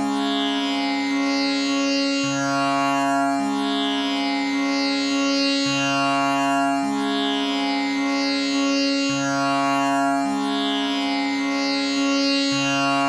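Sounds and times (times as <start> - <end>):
tanpura drone: 0.0 - 13.0.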